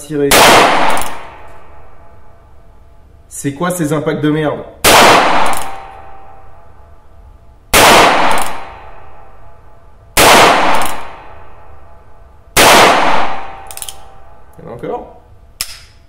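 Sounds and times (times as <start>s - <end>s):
revolver shots ringing indoors: 0.2s - 3.1s, 4.8s - 14.6s, 15.3s - 16.0s.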